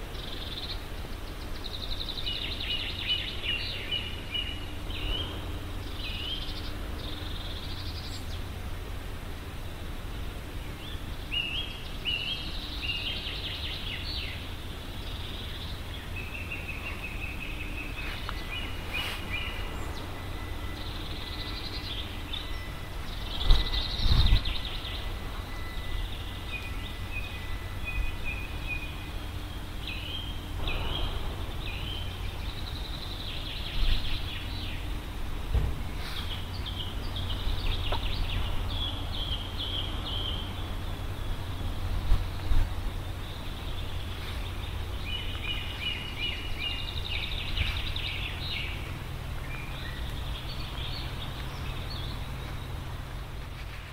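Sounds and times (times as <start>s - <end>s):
songbirds chirping: 0.0s - 53.9s
steady low rumble: 0.0s - 53.9s.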